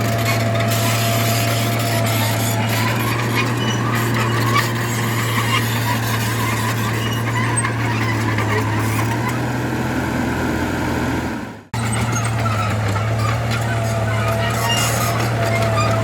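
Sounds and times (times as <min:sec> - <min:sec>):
high squeaks and clicks: 0:00.0 - 0:09.4, 0:11.8 - 0:16.0
bulldozer diesel engine droning: 0:00.0 - 0:16.0.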